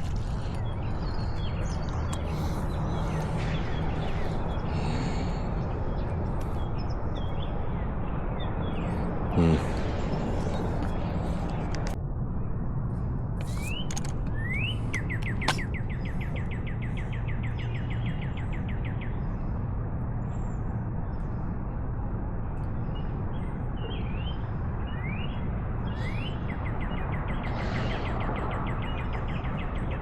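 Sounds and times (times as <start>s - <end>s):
songbird singing: 0.0s - 12.0s, 13.4s - 19.6s, 22.6s - 30.0s.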